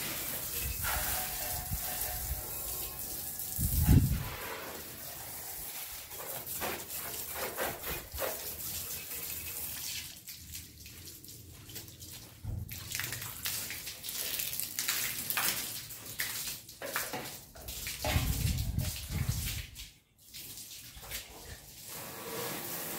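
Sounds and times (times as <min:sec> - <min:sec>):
hose water splashing on concrete: 0:00.0 - 0:22.9.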